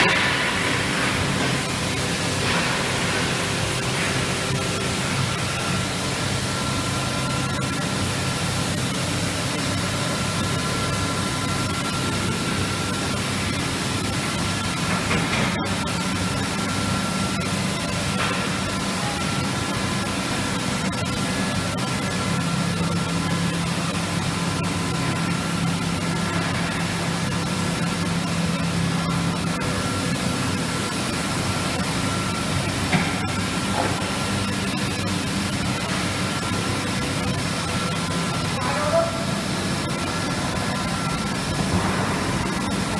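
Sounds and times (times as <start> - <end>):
constant low hum: 0.0 - 42.9
faint machinery tones: 0.0 - 42.9.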